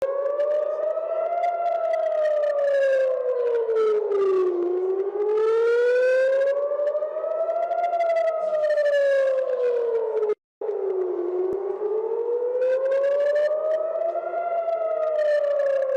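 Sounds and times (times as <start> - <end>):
air-raid siren wailing: 0.0 - 15.9.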